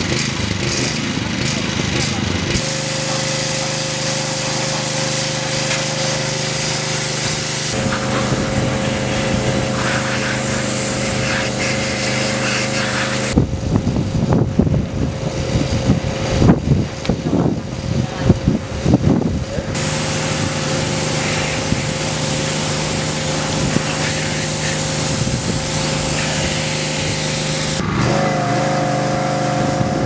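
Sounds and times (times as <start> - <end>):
pressure washer running: 0.0 - 30.0.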